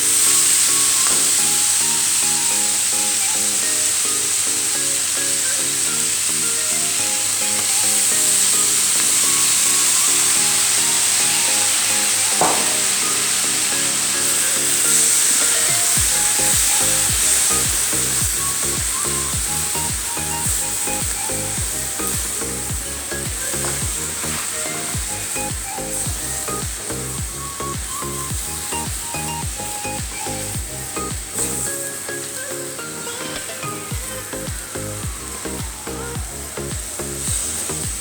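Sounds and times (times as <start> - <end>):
background music with steady beat: 0.0 - 38.0
vegetables sizzling in hot oil: 0.0 - 38.0.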